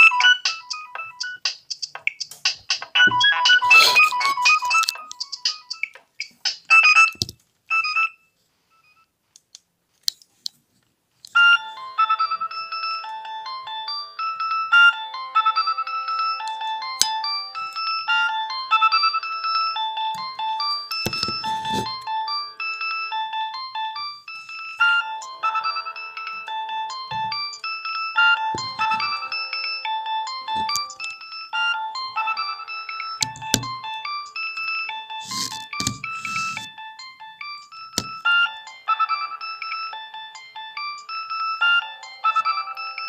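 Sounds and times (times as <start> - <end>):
phone ringtone: 0.0 - 9.1, 11.4 - 43.0.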